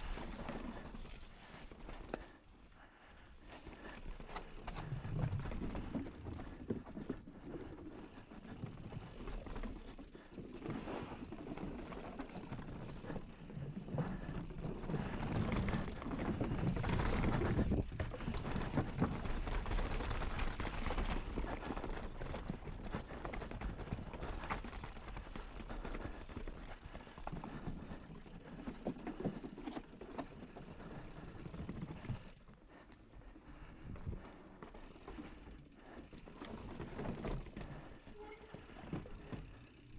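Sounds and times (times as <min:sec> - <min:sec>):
bike chain and frame rattling: 0:03.4 - 0:32.5, 0:33.6 - 0:39.9.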